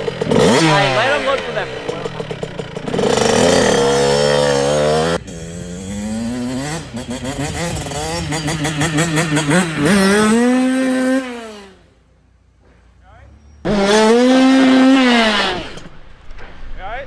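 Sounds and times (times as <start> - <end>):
dirt bike engine revving: 0.0 - 12.0, 13.4 - 16.1.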